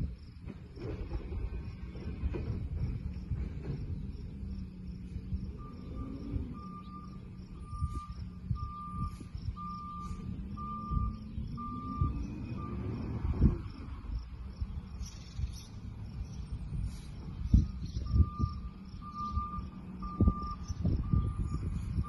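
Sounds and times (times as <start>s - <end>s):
diesel engine running: 0.0s - 22.0s
truck backup alarm beeping: 0.8s - 14.2s, 16.2s - 22.0s.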